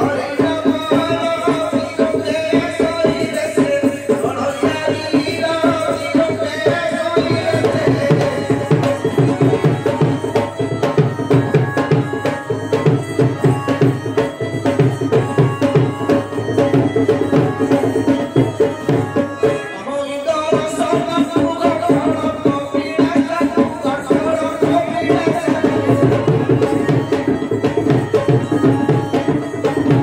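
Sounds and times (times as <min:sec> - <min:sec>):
barrel drum played by hand: 0:00.0 - 0:19.7, 0:20.5 - 0:30.0
held melody line: 0:00.0 - 0:30.0.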